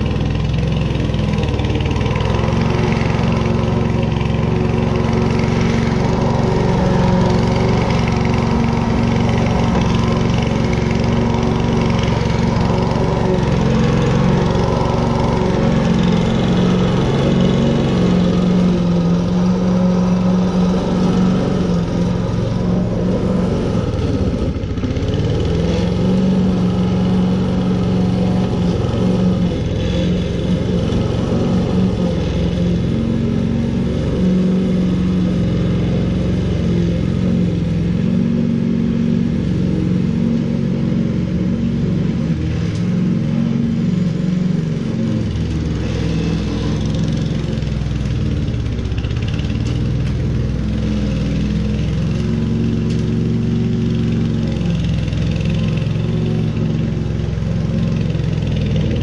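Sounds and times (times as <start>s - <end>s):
lawn mower running: 0.0s - 59.0s.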